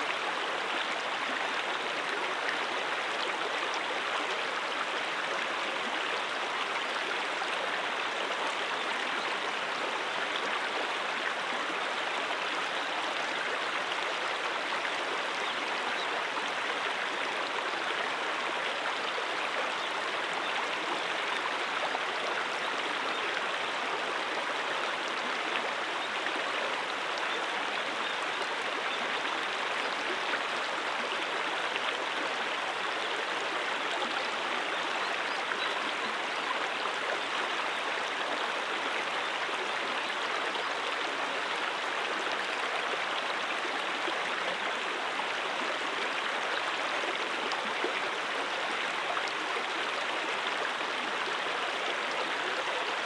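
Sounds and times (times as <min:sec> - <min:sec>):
brook flowing: 0:00.0 - 0:53.0.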